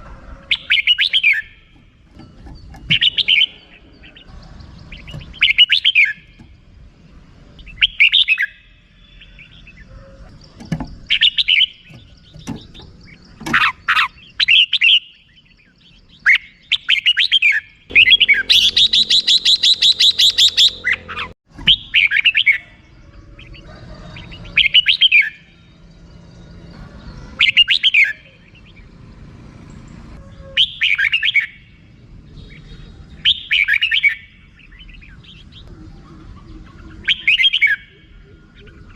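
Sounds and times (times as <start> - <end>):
bird calling in bright phrases: 0.0 - 38.9.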